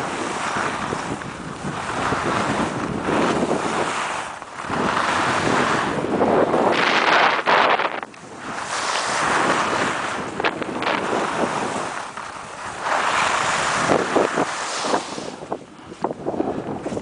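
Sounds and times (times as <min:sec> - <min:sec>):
snow scraping under ski edges: 0:00.0 - 0:17.0
wind buffeting microphone: 0:00.0 - 0:17.0
short crackly snow scrapes: 0:00.1 - 0:15.6.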